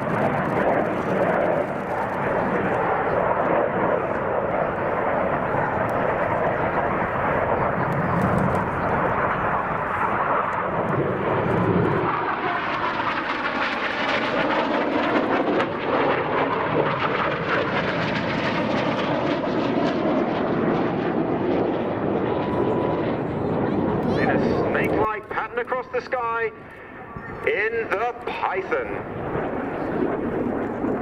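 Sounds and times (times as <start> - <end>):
jets flying past: 0.0 - 31.0.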